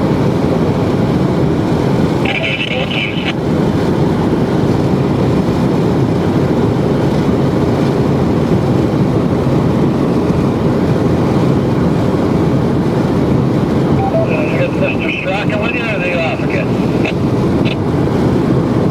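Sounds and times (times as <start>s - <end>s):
car road and wind rumble: 0.0s - 14.0s, 14.7s - 18.9s.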